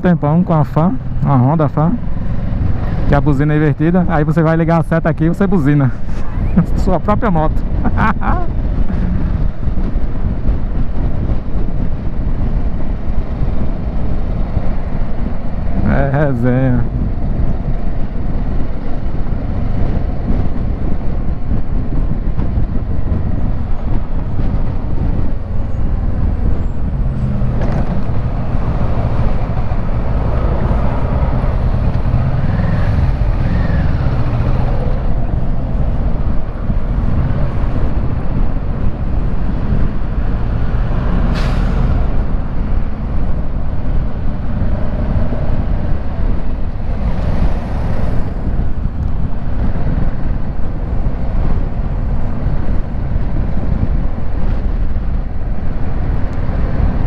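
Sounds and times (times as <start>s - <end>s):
road noise: 0.0s - 57.0s
wind rush: 0.0s - 57.0s.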